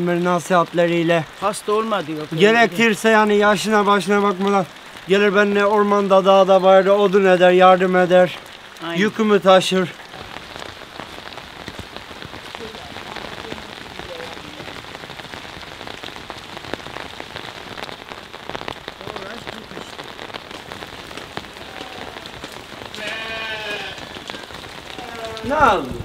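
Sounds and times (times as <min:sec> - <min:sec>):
steady rain pattering: 0:00.0 - 0:26.0.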